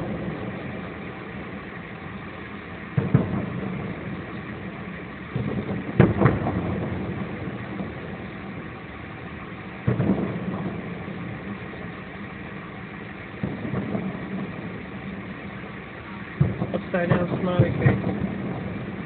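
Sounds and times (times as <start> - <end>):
car engine hum: 0.0 - 19.0
distant fireworks bangs: 0.0 - 19.0.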